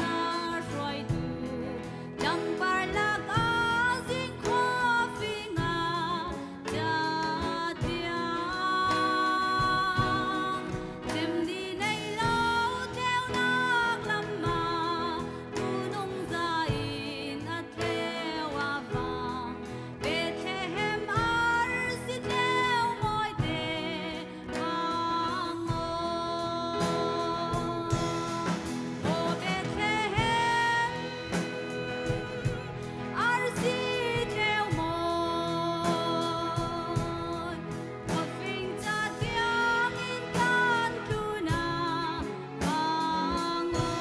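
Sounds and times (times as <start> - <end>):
instrumental accompaniment: 0.0 - 44.0
woman singing with vibrato: 0.0 - 44.0.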